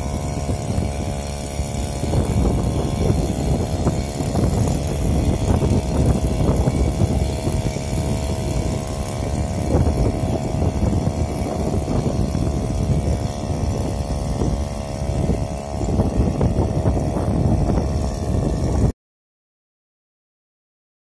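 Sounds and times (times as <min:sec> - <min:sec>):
small water pump engine running: 0:00.0 - 0:19.0.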